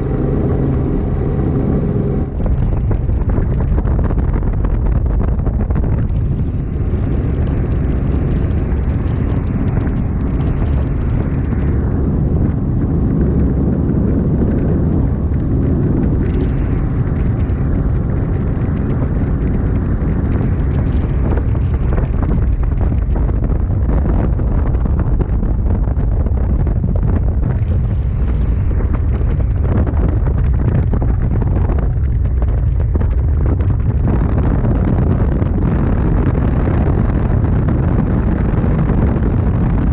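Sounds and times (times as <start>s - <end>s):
helicopter engine and rotors: 0.0s - 39.9s
wind buffeting microphone: 0.0s - 39.9s.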